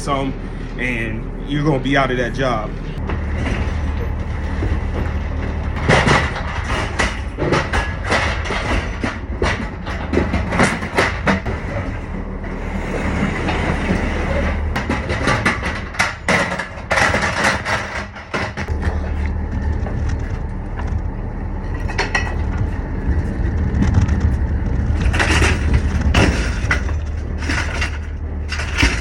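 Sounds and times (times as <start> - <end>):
truck engine rumbling: 0.0 - 29.0
truck body rattling and clanking: 1.6 - 29.0.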